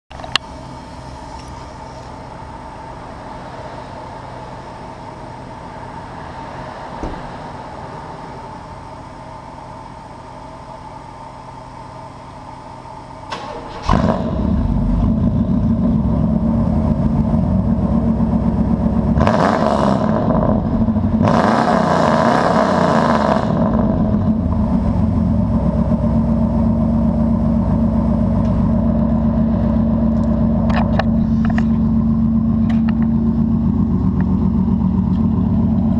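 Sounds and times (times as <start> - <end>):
truck engine idling and revving: 0.1 - 35.9.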